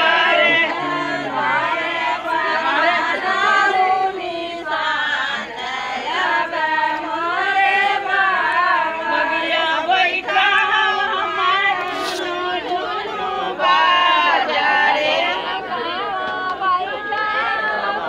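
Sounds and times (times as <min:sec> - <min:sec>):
group of people singing: 0:00.0 - 0:18.0.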